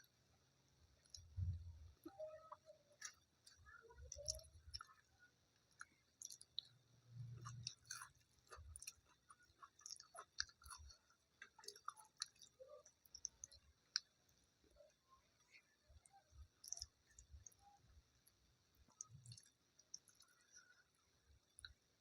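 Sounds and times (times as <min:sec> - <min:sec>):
person chewing food: 0:00.9 - 0:21.9.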